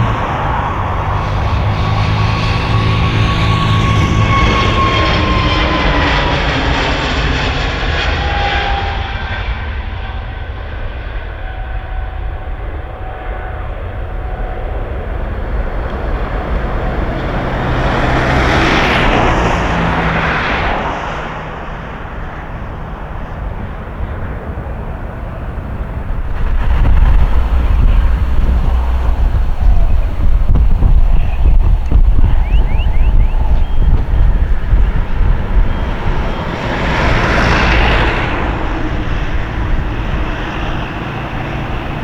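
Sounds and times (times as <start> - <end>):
jet engine rush: 0.0 - 42.0
jet engine whine: 0.0 - 42.0.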